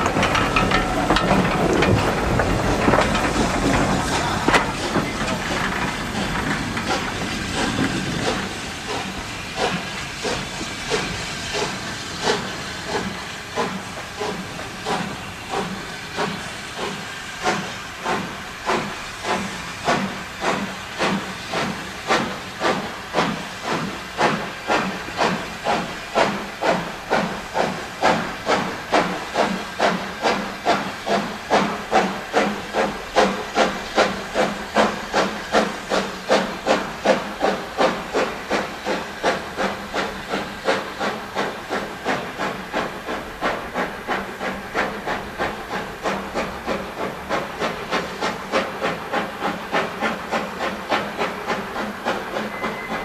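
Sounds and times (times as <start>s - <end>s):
steam hissing: 0.0s - 53.0s
steam locomotive exhaust beats: 0.0s - 53.0s.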